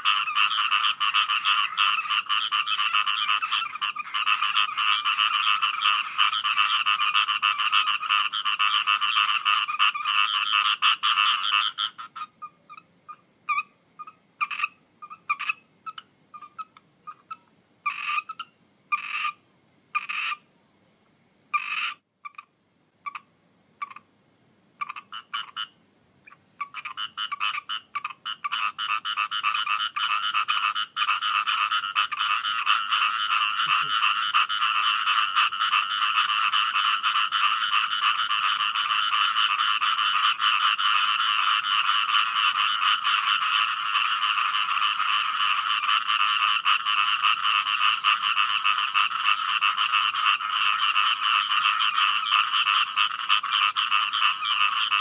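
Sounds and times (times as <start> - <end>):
frogs croaking: 0.0 - 55.0.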